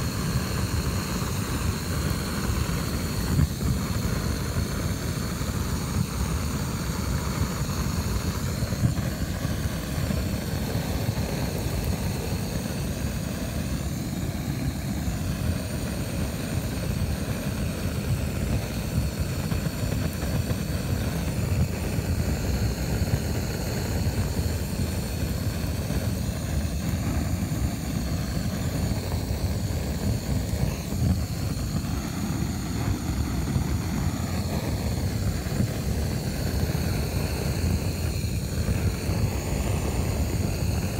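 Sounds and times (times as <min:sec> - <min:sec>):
gas torch burning: 0:00.0 - 0:40.9.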